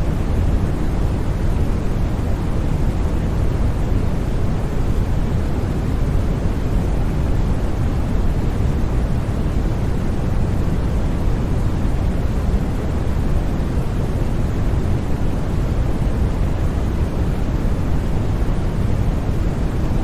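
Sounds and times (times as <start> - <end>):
deep rushing white noise: 0.0 - 20.0.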